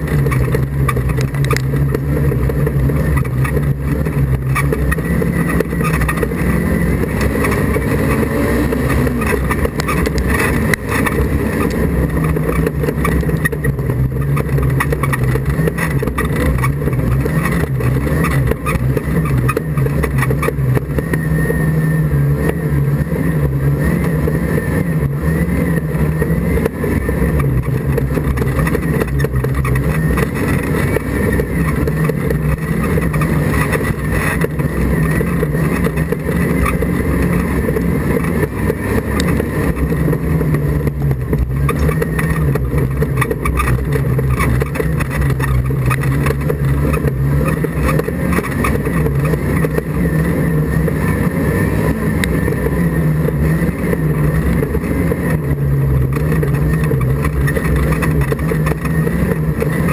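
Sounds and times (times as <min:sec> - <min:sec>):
race car engine revving: 0:00.0 - 0:59.9
steady rushing noise: 0:00.0 - 0:59.9.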